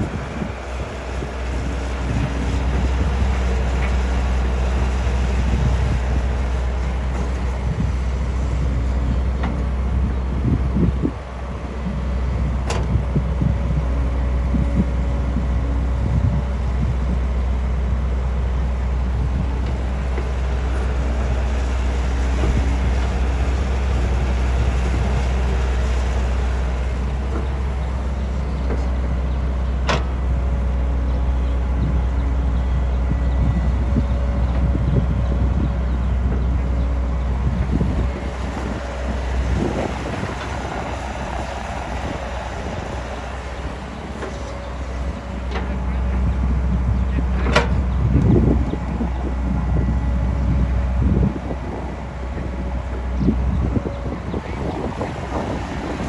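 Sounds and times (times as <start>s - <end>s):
construction machinery rumbling: 0.0s - 56.0s.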